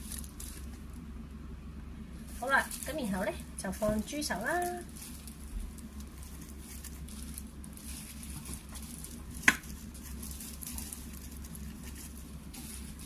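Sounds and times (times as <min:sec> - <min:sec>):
rustling handling of food: 0:00.0 - 0:13.0.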